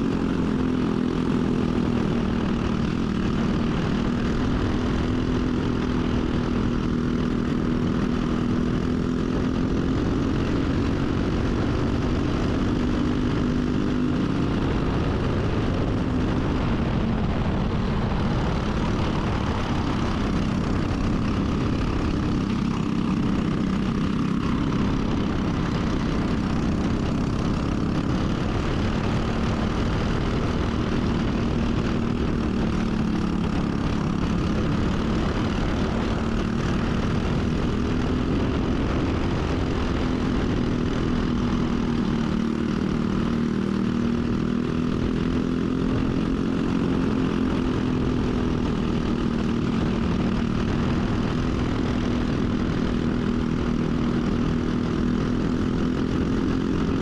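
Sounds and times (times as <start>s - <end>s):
kart engine buzzing: 0.0s - 57.0s.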